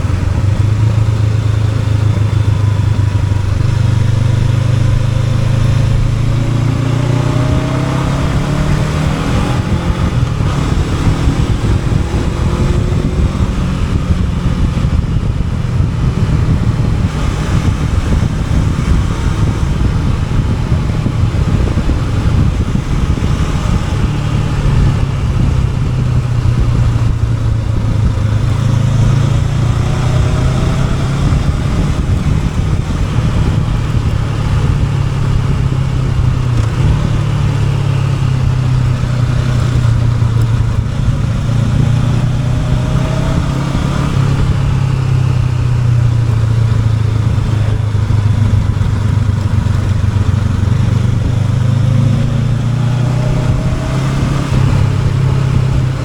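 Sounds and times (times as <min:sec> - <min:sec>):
constant rushing noise: 0:00.0 - 0:56.0
motorcycle engine running: 0:00.0 - 0:56.0.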